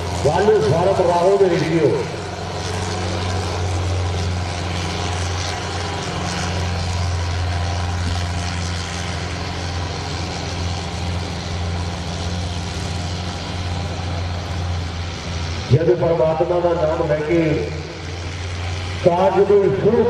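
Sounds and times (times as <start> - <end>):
diesel tractor engines droning: 0.0 - 20.0.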